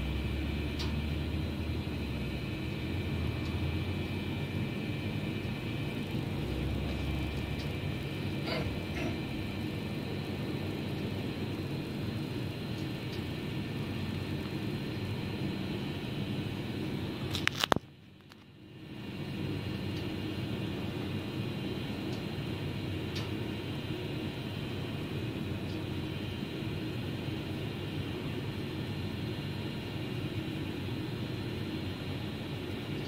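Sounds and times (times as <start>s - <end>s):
faint high hum: 0.0s - 33.0s.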